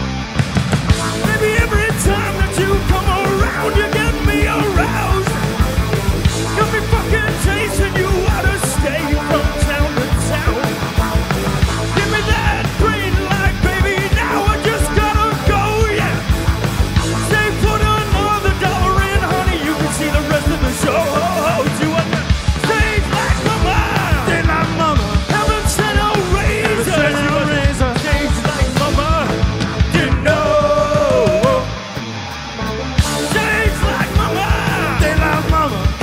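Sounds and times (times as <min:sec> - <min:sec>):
drum kit: 0:00.0 - 0:36.0
electric bass: 0:00.0 - 0:36.0
electric guitar: 0:00.0 - 0:36.0
man singing and shouting: 0:01.1 - 0:11.0, 0:11.8 - 0:31.9, 0:33.1 - 0:36.0.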